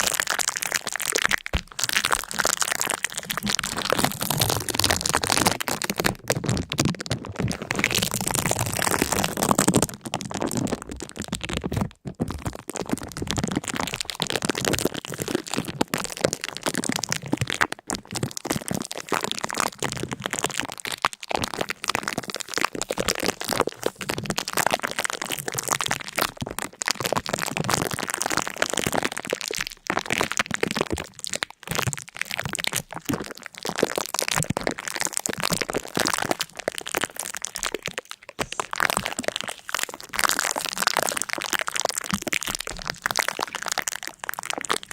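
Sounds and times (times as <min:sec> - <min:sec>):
dense crackling and crunching: 0:00.0 - 0:44.9.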